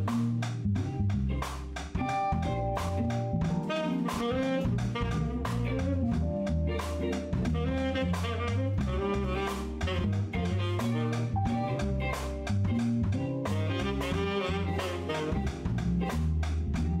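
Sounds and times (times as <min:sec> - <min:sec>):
drum kit: 0:00.0 - 0:17.0
electric bass: 0:00.0 - 0:17.0
keyboard: 0:00.0 - 0:17.0
saxophone melody: 0:02.4 - 0:16.4.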